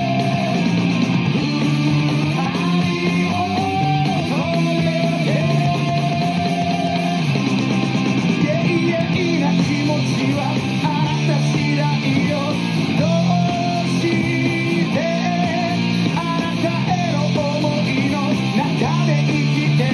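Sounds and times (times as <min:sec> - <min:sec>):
rock music with guitar: 0:00.0 - 0:19.9.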